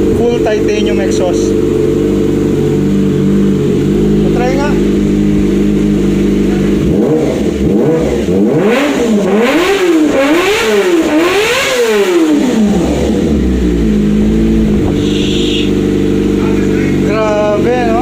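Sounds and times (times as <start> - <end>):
motorcycle engine revving and idling: 0.0 - 18.0.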